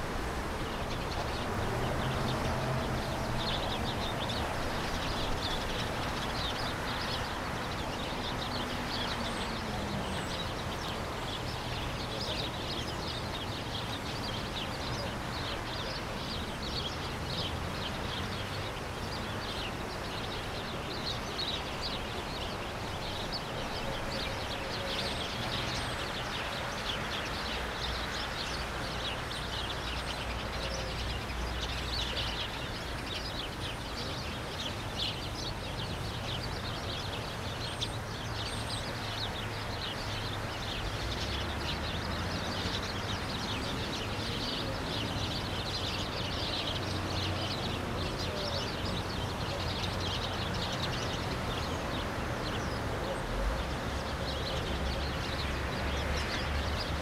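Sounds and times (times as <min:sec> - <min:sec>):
birds chirping: 0:00.0 - 0:57.0
low rumble of city traffic: 0:00.0 - 0:57.0.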